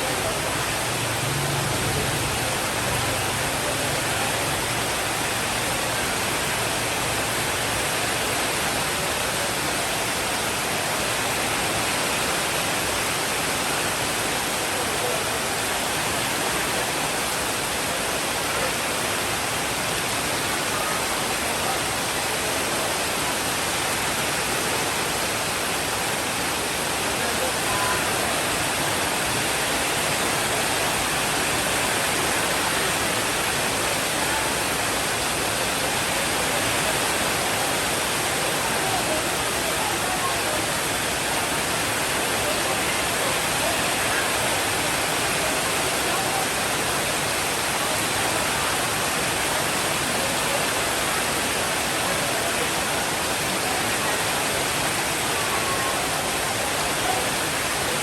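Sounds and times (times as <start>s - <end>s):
steady rainfall hiss: 0.0s - 58.0s.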